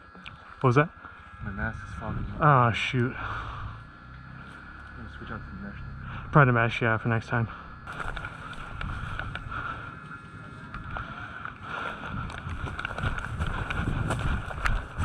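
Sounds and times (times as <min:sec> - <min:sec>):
wind rumbling on microphone: 0:00.0 - 0:05.0, 0:07.5 - 0:15.0.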